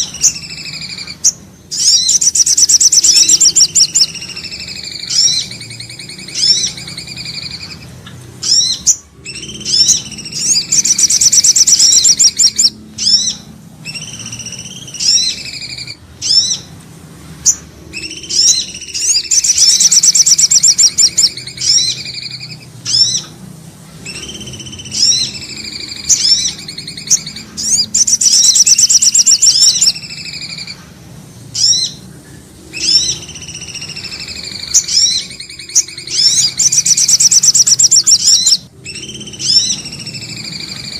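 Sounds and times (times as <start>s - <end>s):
bird chirps and whistled notes: 0.0s - 16.7s, 17.4s - 23.4s, 24.0s - 30.8s, 31.5s - 32.0s, 32.7s - 40.9s
rapid high bird trill: 0.0s - 40.9s.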